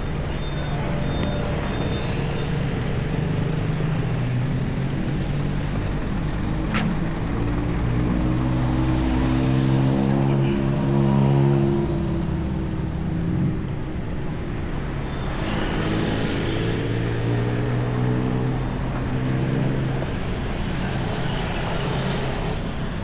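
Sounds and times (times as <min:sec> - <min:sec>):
traffic hum: 0:00.0 - 0:23.0
vehicle engines running: 0:00.0 - 0:23.0.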